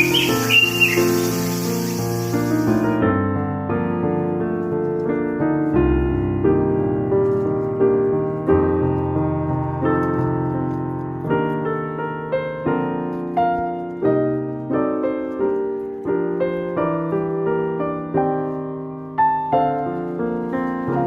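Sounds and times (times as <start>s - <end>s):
slow piano music: 0.0s - 21.0s.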